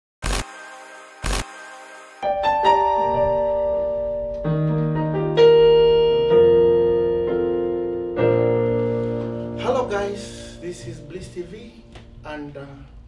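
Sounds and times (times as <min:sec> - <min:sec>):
electronic keyboard piano chords: 0:00.3 - 0:12.3.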